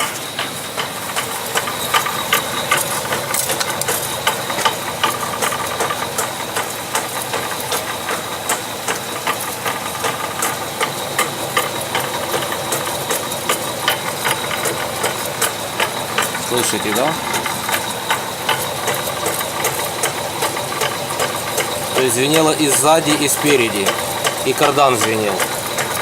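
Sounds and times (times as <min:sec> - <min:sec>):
drivetrain knocking sharply: 0:00.0 - 0:26.0
steady engine hum: 0:00.0 - 0:26.0.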